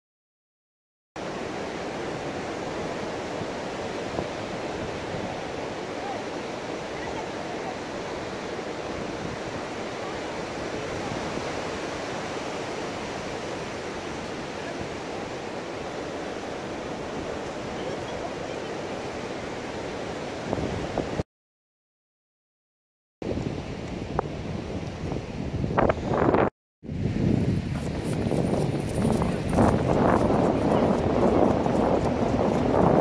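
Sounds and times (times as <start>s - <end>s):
ocean surf breaking on beach: 1.2s - 21.2s, 23.3s - 33.0s.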